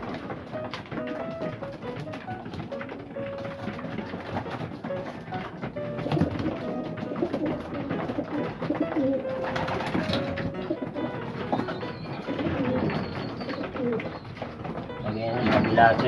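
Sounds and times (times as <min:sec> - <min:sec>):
pigeons cooing: 0:02.8 - 0:16.0.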